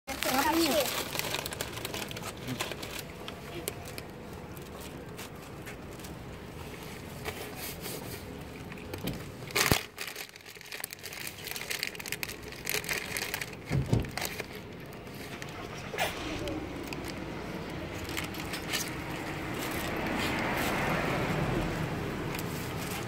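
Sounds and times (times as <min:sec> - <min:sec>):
cat crunching potato chips: 0:00.1 - 0:06.4, 0:08.3 - 0:21.1.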